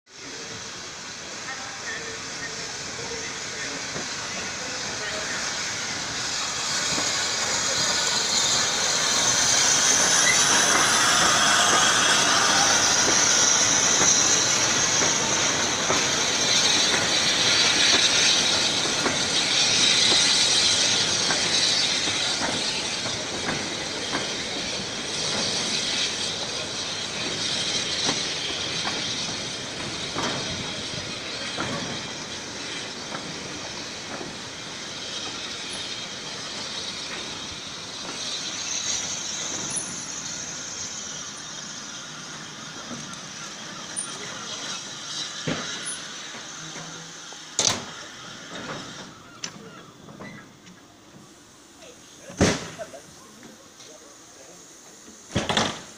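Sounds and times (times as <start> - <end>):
steam locomotive hissing: 0.1 - 55.9.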